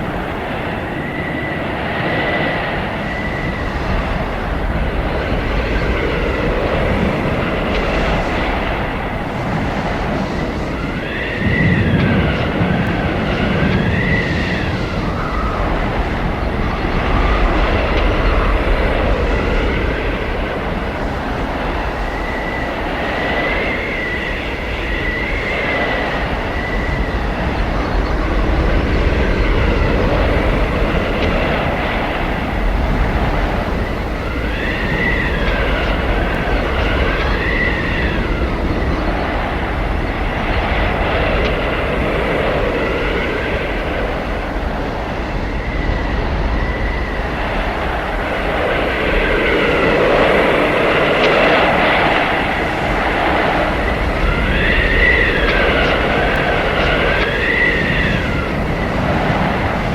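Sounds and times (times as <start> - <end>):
blizzard wind rushing: 0.0 - 59.9
wind howling and whistling: 0.0 - 59.9.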